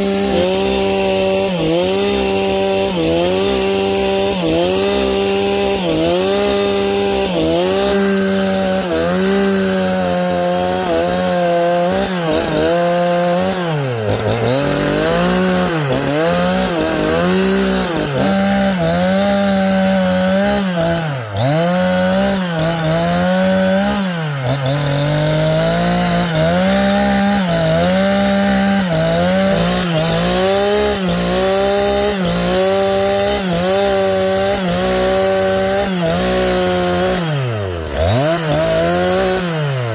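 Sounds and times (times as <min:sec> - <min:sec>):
chainsaw sawing through log: 0:00.0 - 0:39.9.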